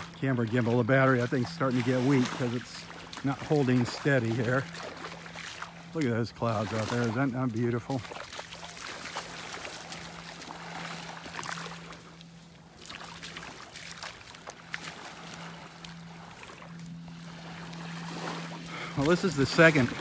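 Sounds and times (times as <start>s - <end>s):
faint low hum: 0.0s - 20.0s
small waves lapping: 0.0s - 20.0s.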